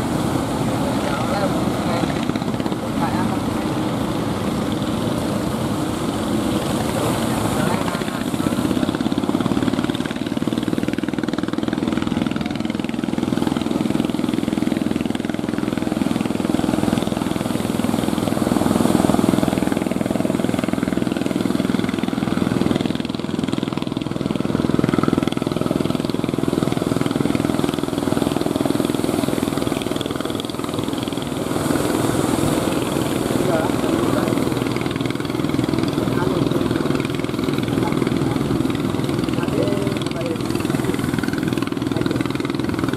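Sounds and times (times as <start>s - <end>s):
boat engines running: 0.0s - 42.9s
waves washing: 0.0s - 42.9s.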